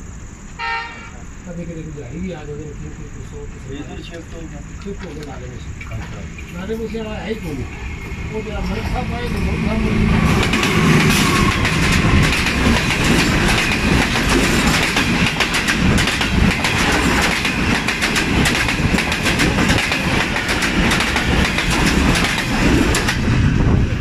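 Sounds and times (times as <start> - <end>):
train coaches rushing past: 0.6 - 24.0
wheels clacking over rail joints: 4.0 - 23.6.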